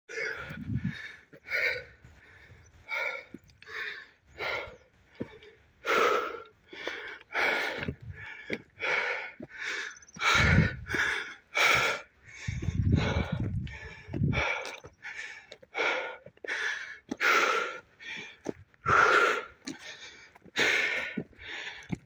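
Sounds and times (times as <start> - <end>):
person panting heavily: 0.1 - 22.0.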